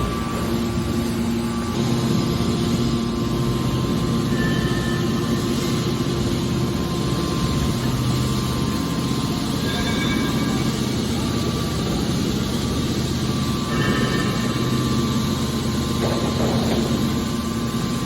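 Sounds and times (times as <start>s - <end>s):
scrap baler drone: 0.0s - 18.0s.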